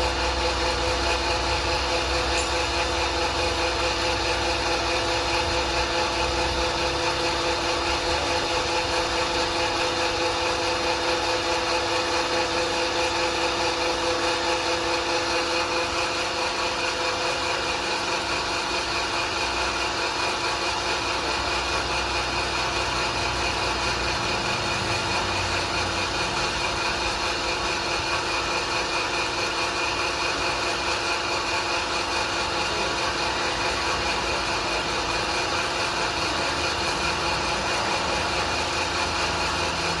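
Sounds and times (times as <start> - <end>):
pellet mill motor humming: 0.0 - 40.0.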